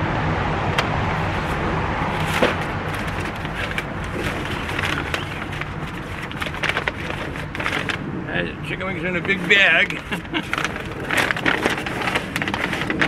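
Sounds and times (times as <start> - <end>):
street traffic rumble: 0.0 - 13.0
paper bag rustling: 1.2 - 8.1, 8.8 - 13.0.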